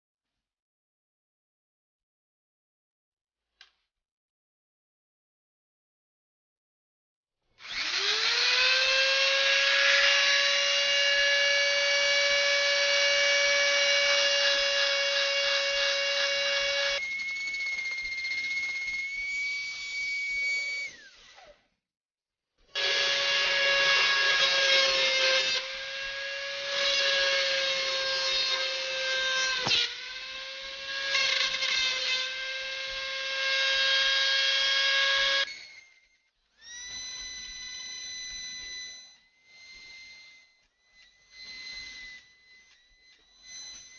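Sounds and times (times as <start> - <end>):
rotary tool whining carving bone: 7.6 - 21.8, 22.7 - 43.9.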